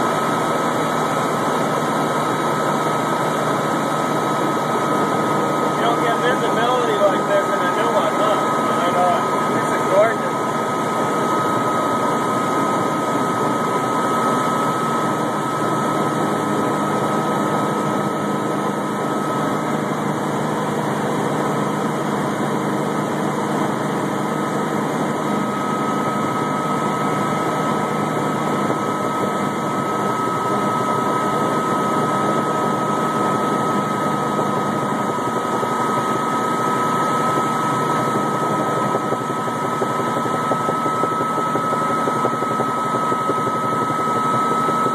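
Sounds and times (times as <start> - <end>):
helicopter engine and rotor noise: 0.0 - 44.9
high whine: 0.0 - 44.9.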